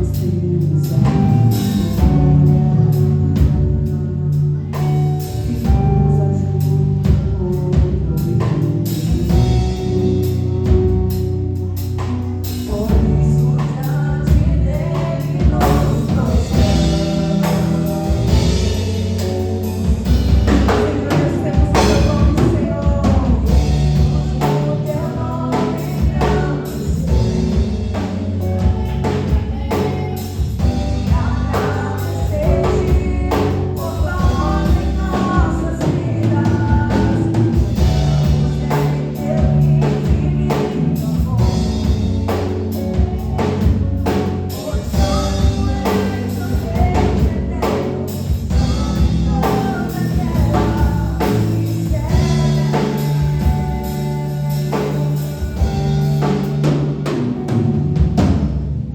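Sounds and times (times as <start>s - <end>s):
gospel singing: 0.0s - 58.1s
band with drum kit: 0.0s - 58.9s.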